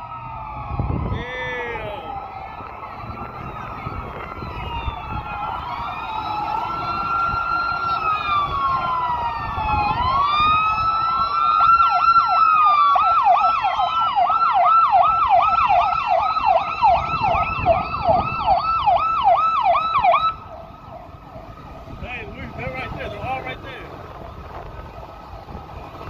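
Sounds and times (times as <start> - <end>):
police sirens wailing: 0.0 - 26.0
traffic rumble: 0.0 - 26.0.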